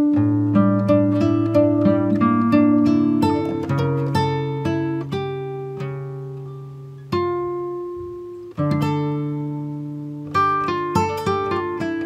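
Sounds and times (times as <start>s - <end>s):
slow plucked string music: 0.0s - 12.0s.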